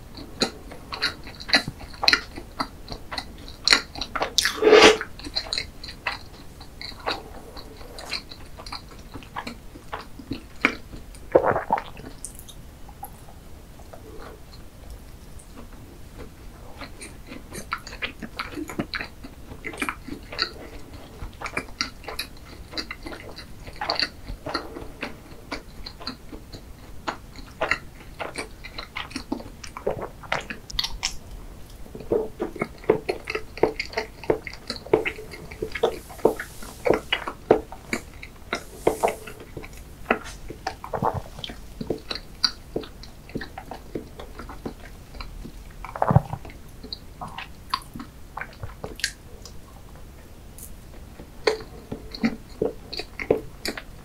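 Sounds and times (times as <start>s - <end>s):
close chewing with mouth clicks: 0.1s - 4.6s, 5.2s - 54.0s.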